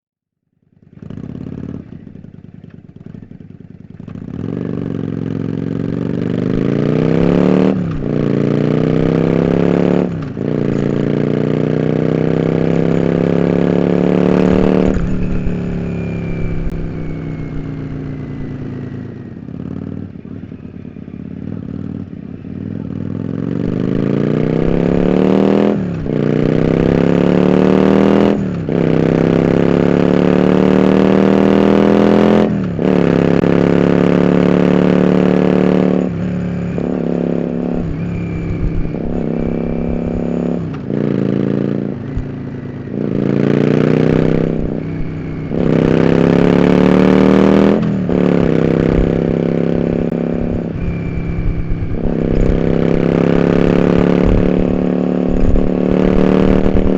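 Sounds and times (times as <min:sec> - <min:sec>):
motorcycle engine revving through gears: 0:00.5 - 0:56.9.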